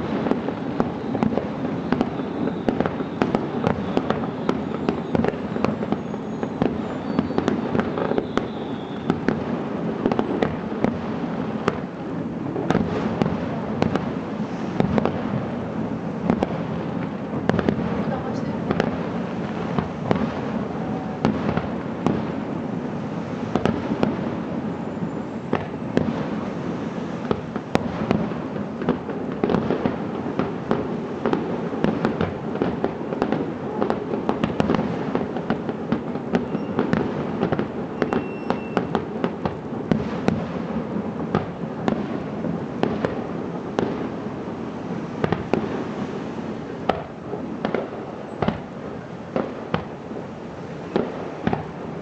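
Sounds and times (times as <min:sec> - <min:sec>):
fireworks bursting and crackling: 0:00.0 - 0:52.0.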